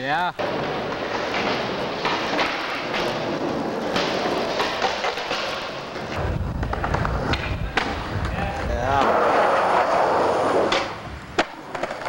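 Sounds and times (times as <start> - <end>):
skateboard rolling on concrete: 0.4 - 12.0
skateboard wheels clacking: 0.4 - 12.0.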